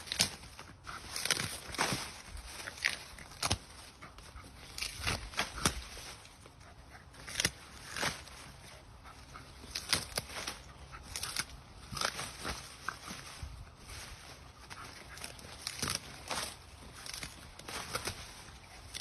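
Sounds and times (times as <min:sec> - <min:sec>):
dry corn stalks crackling: 0:00.0 - 0:19.0.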